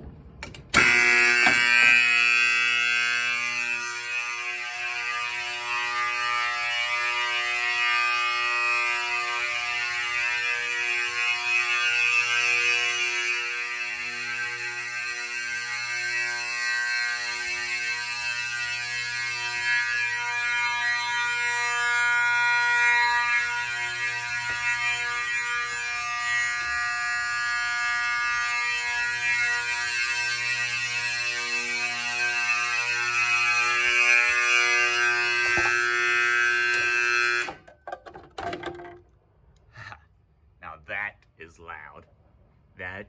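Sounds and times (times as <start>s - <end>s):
fire alarm horns blaring: 0.6s - 37.8s.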